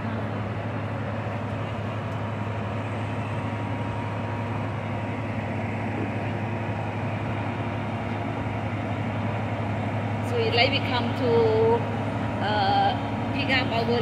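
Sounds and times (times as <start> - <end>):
faint steady whine: 0.0 - 14.0
locomotive engine hum: 0.0 - 14.0.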